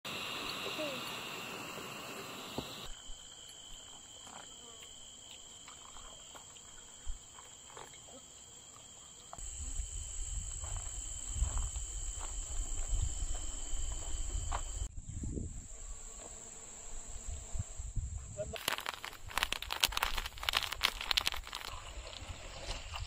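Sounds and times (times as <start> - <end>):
crickets chirring: 0.1 - 23.0.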